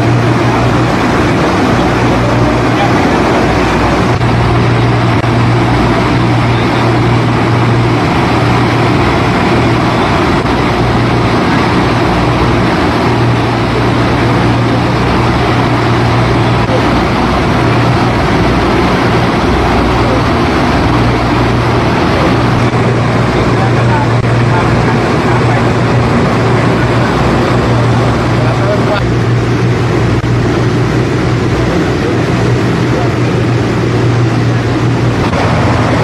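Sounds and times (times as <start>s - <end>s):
boat engines humming: 0.0s - 36.0s
churning river water: 0.0s - 36.0s.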